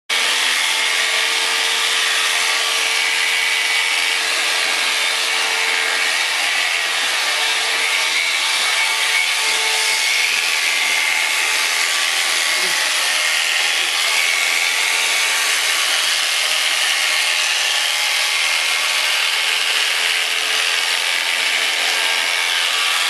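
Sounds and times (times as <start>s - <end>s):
electric shears buzzing: 0.1s - 23.0s.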